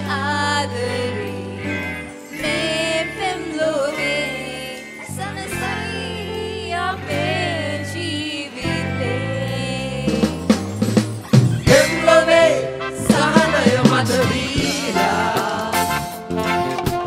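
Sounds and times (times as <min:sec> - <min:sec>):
person singing with vibrato: 0:00.0 - 0:10.5, 0:11.6 - 0:16.3
sustained instrumental accompaniment: 0:00.0 - 0:17.0.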